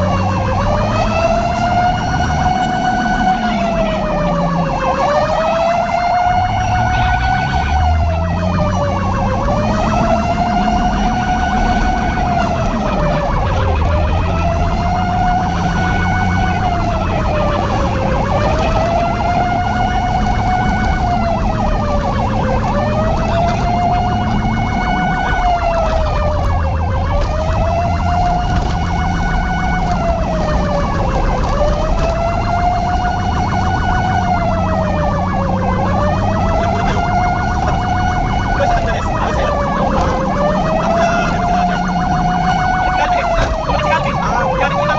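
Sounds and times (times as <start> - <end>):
emergency siren wailing: 0.0 - 44.9.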